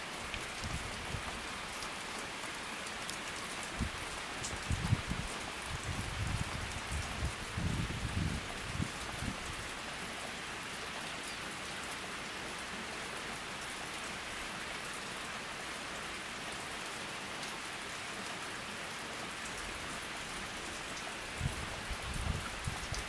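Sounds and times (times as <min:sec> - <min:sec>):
rain falling on a pond: 0:00.0 - 0:23.0.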